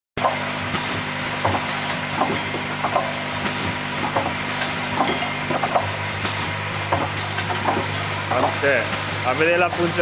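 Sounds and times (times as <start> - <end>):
machine clicks and knocks: 0.2 - 10.0
machine humming and hissing: 0.2 - 10.0.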